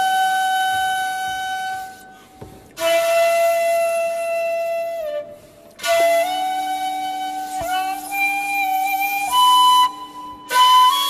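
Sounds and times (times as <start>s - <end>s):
bamboo flute long notes: 0.0s - 11.0s.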